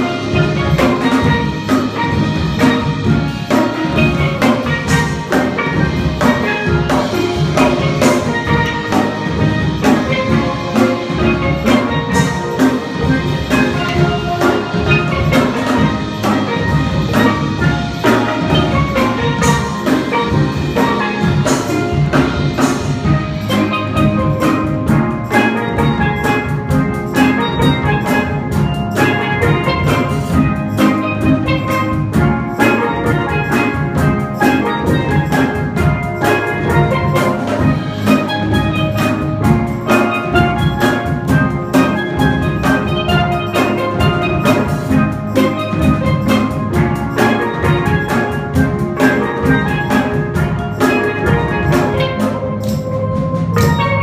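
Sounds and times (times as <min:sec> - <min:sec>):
drums keeping a steady beat: 0:00.0 - 0:54.0
steel pan ensemble playing: 0:00.0 - 0:54.0.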